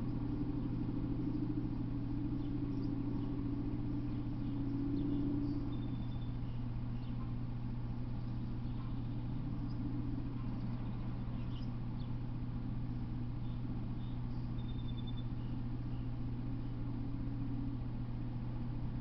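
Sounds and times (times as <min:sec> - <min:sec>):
birds chirping faintly: 0:00.0 - 0:19.0
steady low hum: 0:00.0 - 0:19.0.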